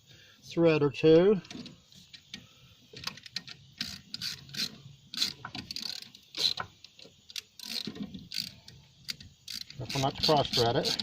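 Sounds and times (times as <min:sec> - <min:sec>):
metal nut clicking and scraping: 0:01.4 - 0:11.0.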